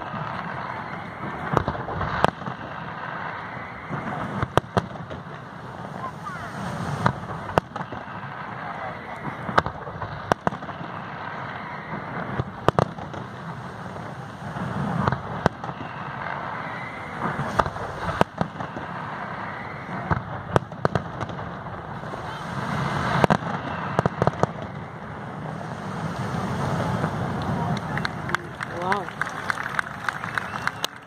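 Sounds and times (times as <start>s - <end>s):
fireworks bursting with sharp bangs: 0.0s - 31.0s
steady background noise: 0.0s - 31.0s.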